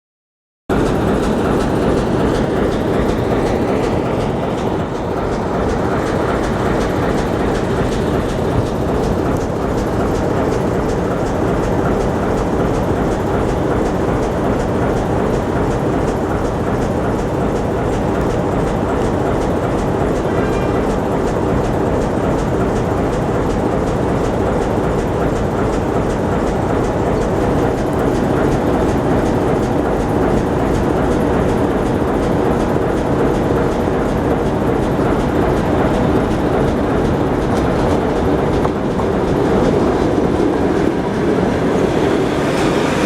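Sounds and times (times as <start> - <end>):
train rumbling on track: 0.7 - 43.0.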